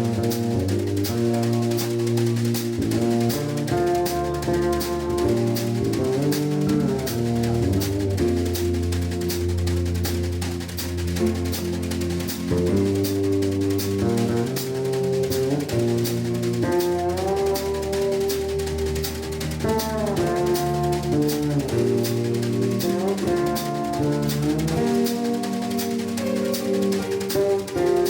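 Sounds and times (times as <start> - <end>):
drum kit cymbal pulse: 0.0 - 28.0
electric bass: 0.0 - 28.0
live jazz band playing: 0.0 - 28.0
sliding melody line: 0.0 - 28.0.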